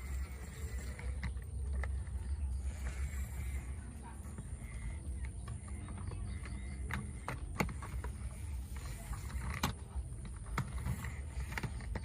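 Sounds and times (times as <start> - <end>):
low steady rumble: 0.0 - 12.0
toy trucks clicking and knocking: 0.0 - 12.0.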